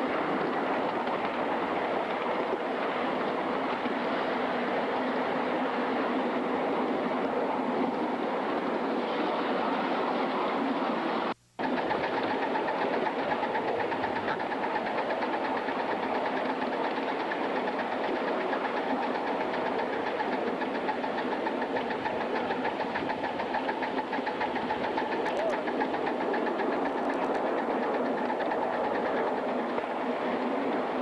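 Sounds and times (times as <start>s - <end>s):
steam locomotive hissing and chuffing: 0.0s - 31.0s.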